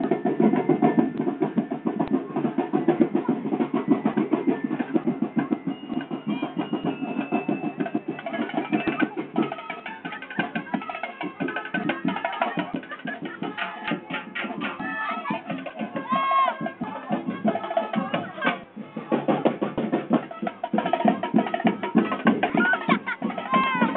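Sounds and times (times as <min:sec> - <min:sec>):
drum band playing fast beat: 0:00.0 - 0:23.9.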